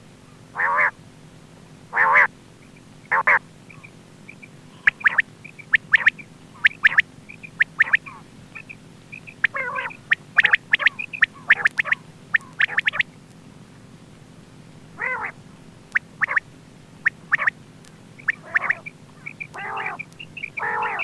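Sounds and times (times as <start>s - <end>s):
quail calling: 0.3s - 1.0s, 1.9s - 13.1s, 15.0s - 17.6s, 18.2s - 21.0s.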